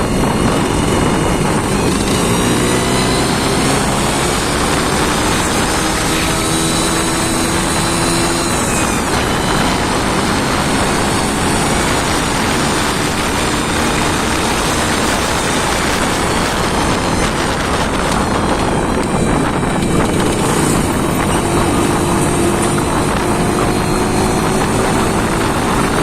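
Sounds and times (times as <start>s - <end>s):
engine running loudly: 0.0s - 26.0s.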